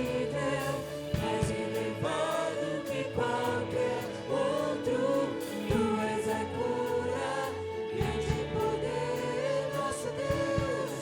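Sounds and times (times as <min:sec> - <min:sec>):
band playing worship music: 0:00.0 - 0:11.0
group of voices singing: 0:00.0 - 0:11.0.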